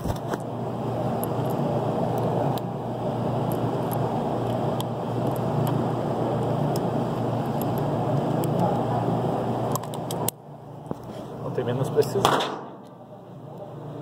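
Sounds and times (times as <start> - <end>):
ventilation rumbling: 0.0 - 14.0.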